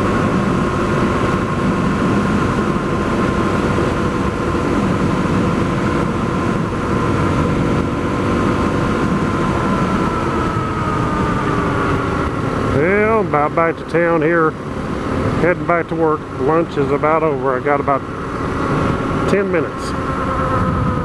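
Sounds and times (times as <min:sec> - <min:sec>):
low wind rumble: 0:00.0 - 0:21.0
motorcycle engine running: 0:00.0 - 0:21.0.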